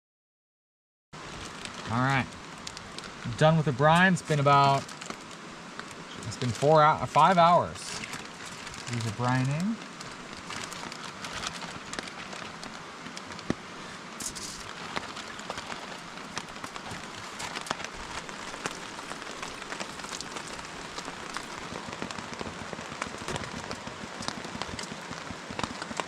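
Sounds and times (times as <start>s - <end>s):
steady rain: 1.2s - 26.0s
sharp raindrop hits: 1.3s - 26.0s.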